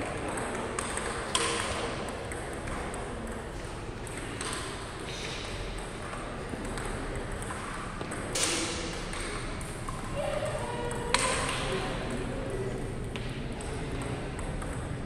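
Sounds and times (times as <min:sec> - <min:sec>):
table tennis balls clicking: 0:00.0 - 0:10.2, 0:10.8 - 0:15.0.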